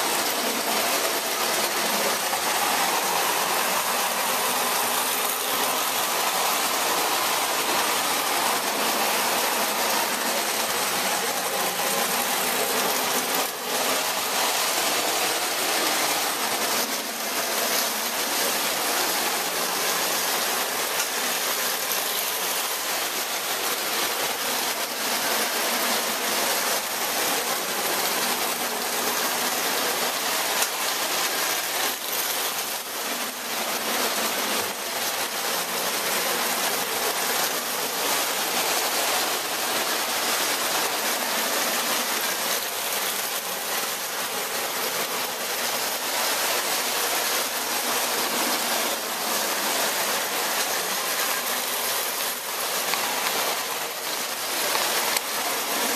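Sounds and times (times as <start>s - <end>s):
toy trains rattling on track: 0.0s - 55.9s.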